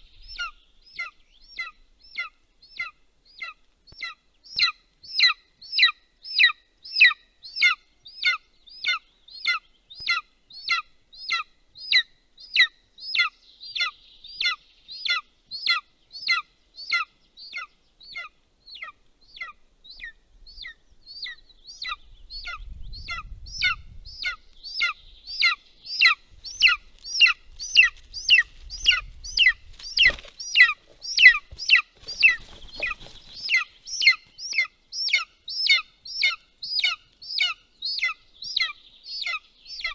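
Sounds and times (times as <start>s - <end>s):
eagle chick begging call: 0.0s - 39.9s.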